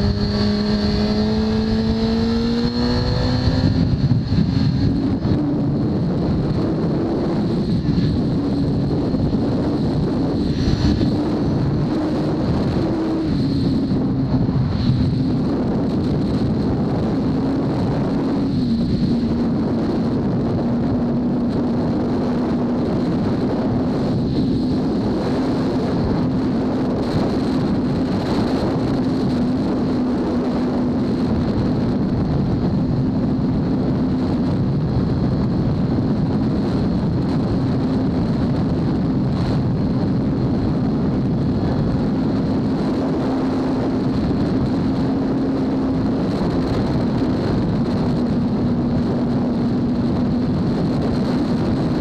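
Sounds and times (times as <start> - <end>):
motorcycle engine cruising: 0.0 - 52.0
wind rushing over microphone: 0.0 - 52.0.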